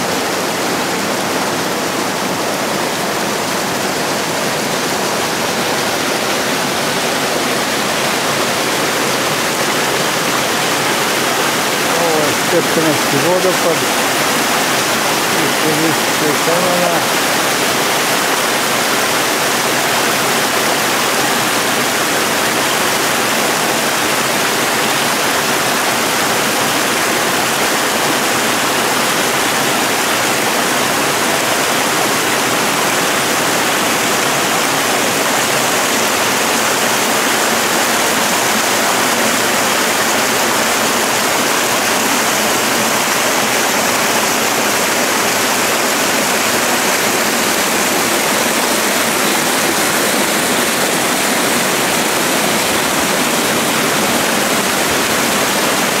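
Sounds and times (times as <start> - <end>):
creek rushing over rocks: 0.0 - 56.0.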